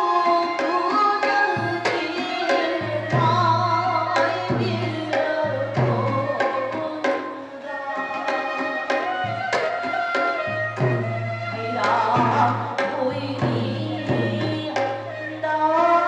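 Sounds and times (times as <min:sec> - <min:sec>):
person singing wavering melody: 0:00.0 - 0:16.0.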